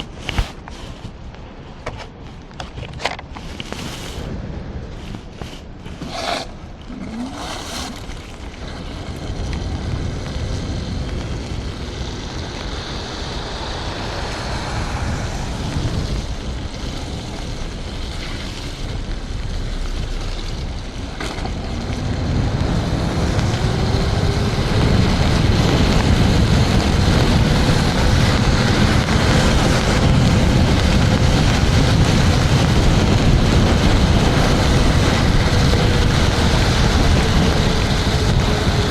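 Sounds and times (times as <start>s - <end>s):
tyre noise on wet pavement: 0.0s - 38.9s
wind rushing over microphone: 0.0s - 38.9s.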